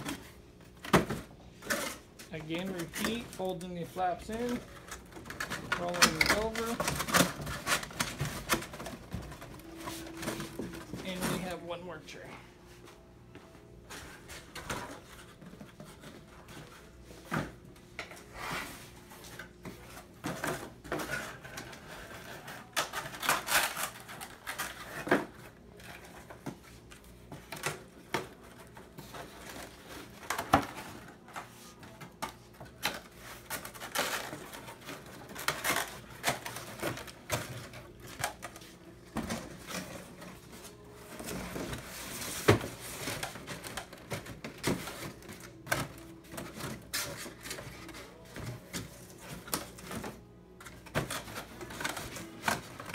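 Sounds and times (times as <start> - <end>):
cardboard rustling and scraping: 0.0 - 11.8, 13.8 - 52.9.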